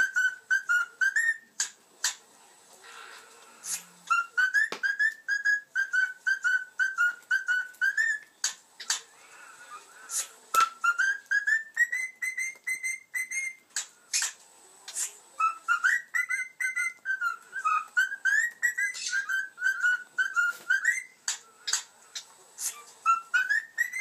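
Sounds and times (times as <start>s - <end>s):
cockatiel whistling: 0.0s - 2.2s, 3.6s - 9.0s, 9.6s - 14.4s, 15.0s - 21.9s, 22.6s - 24.0s
harsh bird chirps: 0.0s - 2.2s, 3.6s - 14.4s, 15.0s - 24.0s.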